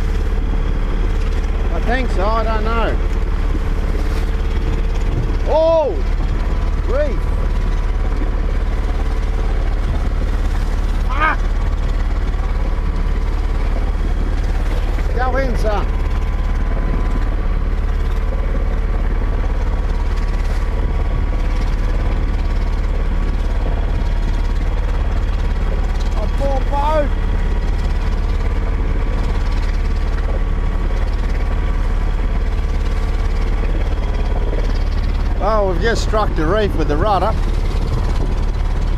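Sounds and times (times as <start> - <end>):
boat motor thrumming: 0.0 - 38.9.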